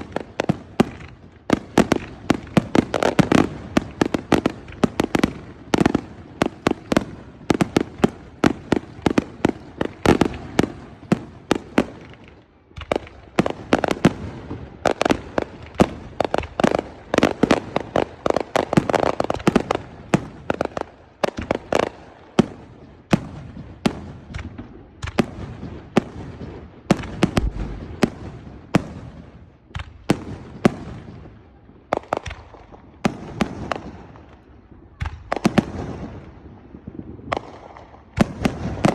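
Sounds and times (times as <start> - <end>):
fireworks banging: 0.0 - 38.9.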